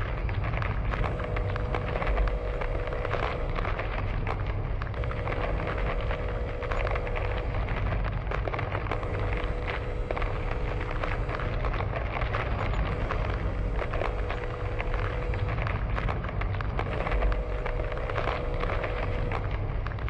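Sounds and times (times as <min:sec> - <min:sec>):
crackling and rattling: 0:00.0 - 0:20.0
deep rumble: 0:00.0 - 0:20.0
faint steady hum: 0:00.0 - 0:20.0.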